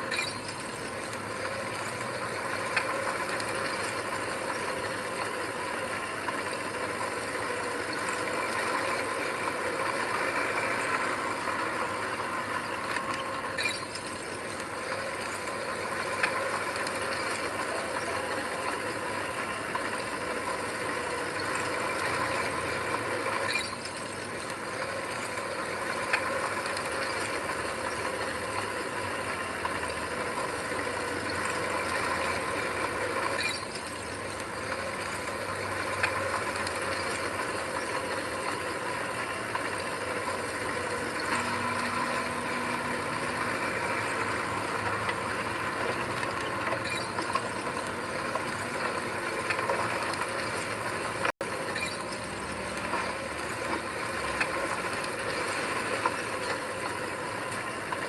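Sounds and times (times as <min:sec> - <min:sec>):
heavy machinery running: 0:00.0 - 0:58.0.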